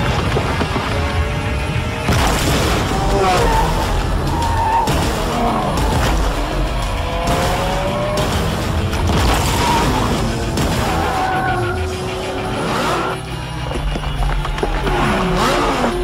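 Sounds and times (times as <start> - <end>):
car engine revving: 0.0 - 16.0
music: 0.0 - 16.0
tyres skidding: 2.7 - 16.0.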